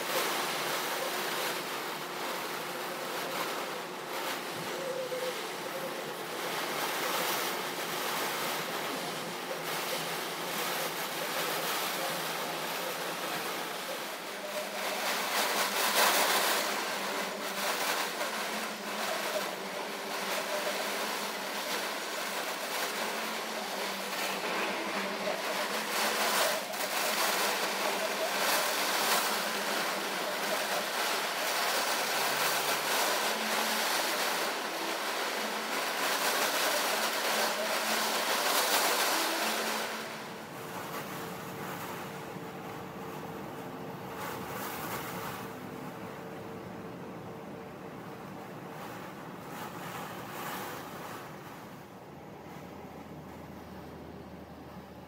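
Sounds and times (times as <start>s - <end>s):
heavy rain: 0.0s - 46.4s, 47.7s - 55.0s.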